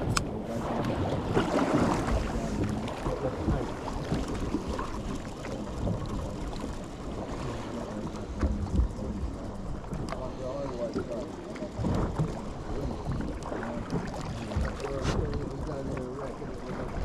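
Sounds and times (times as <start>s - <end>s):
sea sounds: 0.0s - 17.0s.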